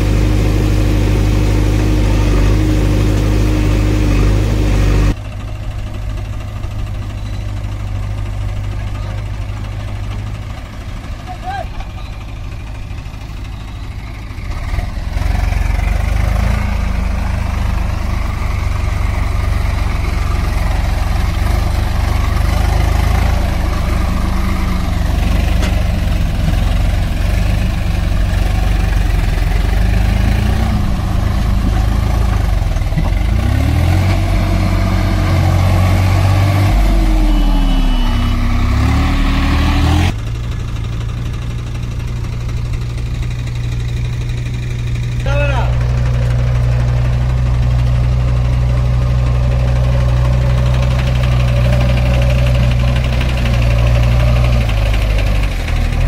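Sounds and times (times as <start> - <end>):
heavy diesel engine revving: 0.0 - 56.0.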